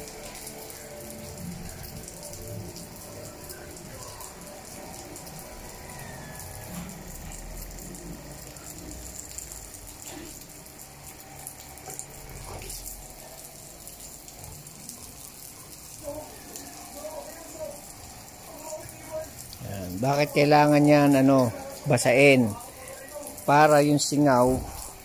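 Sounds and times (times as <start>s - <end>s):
hose spraying water on concrete: 0.0s - 25.0s.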